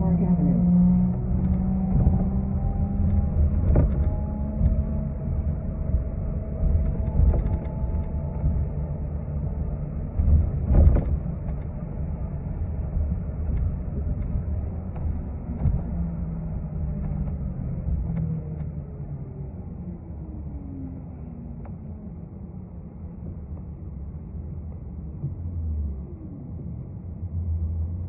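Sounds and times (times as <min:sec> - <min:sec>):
bus engine and road rumble: 0:00.0 - 0:28.0
faint falling whine: 0:00.0 - 0:28.0.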